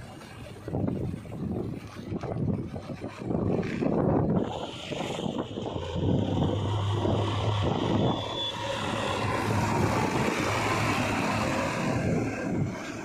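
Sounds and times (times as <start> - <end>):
diesel engine droning: 0.0 - 13.0
wind rushing: 0.4 - 13.0.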